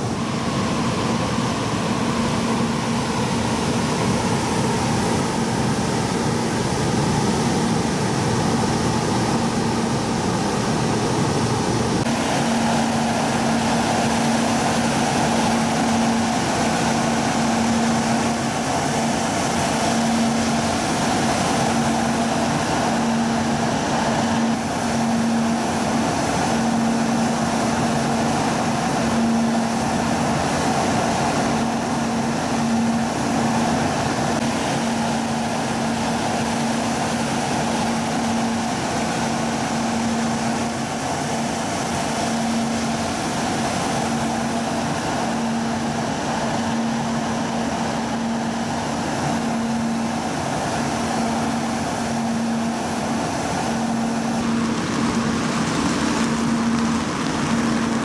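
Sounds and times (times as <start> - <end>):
train equipment hum: 0.0 - 58.0
even rushing noise: 11.4 - 58.0.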